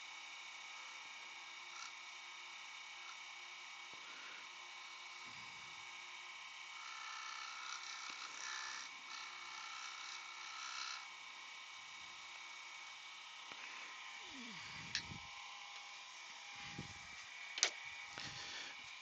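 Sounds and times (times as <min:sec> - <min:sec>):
wood lathe whine: 0:00.0 - 0:19.0.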